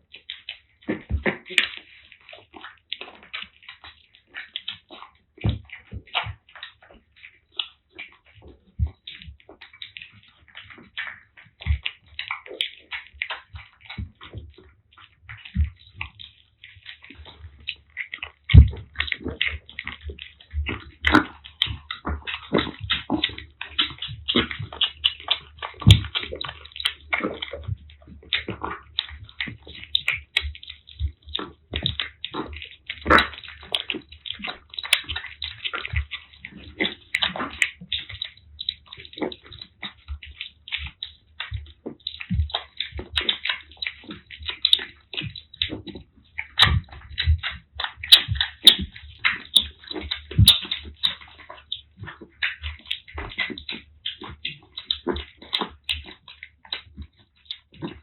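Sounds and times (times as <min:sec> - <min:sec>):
kittens eating wet food: 0:00.0 - 0:58.0.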